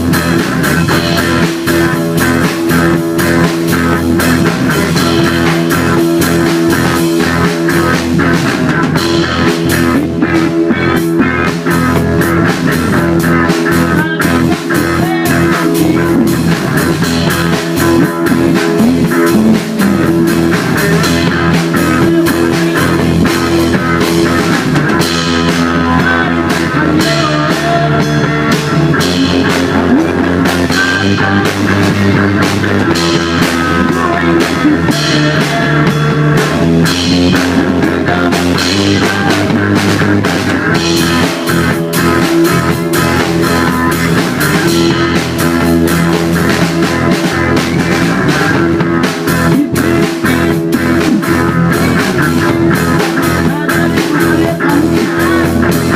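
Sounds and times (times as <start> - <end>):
drum kit: 0.0 - 55.9
electric guitar: 0.0 - 55.9.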